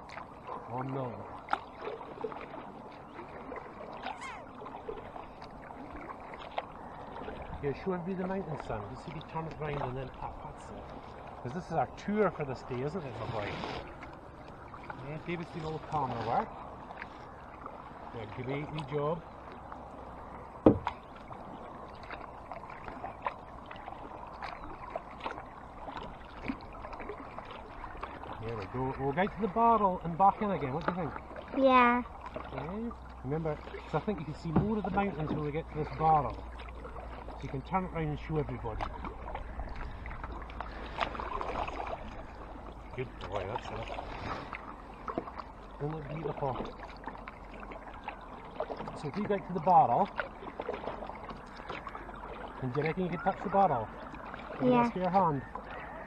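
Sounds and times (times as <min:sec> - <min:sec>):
small knocks and splashes: 0:00.0 - 0:55.8
paddle strokes in water: 0:00.0 - 0:56.0.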